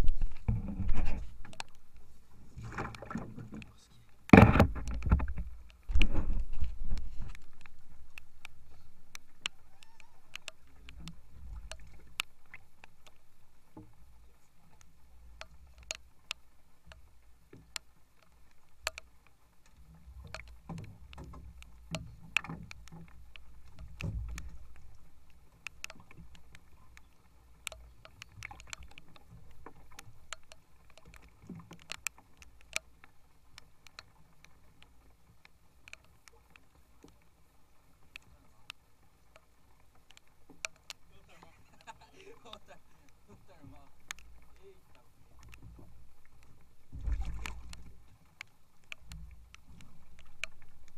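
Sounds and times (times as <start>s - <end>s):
sharp ticks: 1.4s - 2.0s, 6.9s - 14.0s, 14.7s - 37.3s, 38.1s - 46.8s, 47.4s - 50.9s.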